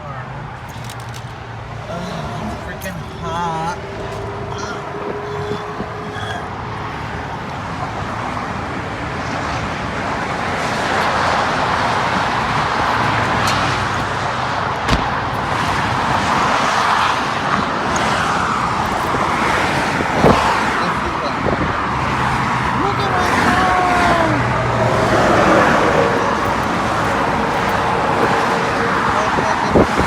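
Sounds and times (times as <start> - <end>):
freeway traffic rushing past: 0.0 - 30.0.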